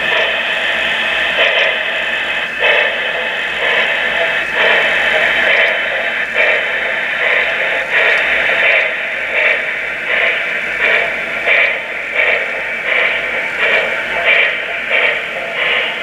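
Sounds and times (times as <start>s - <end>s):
steam exhaust chuff: 0.0s - 16.0s
steam hiss from small speakers: 0.0s - 16.0s.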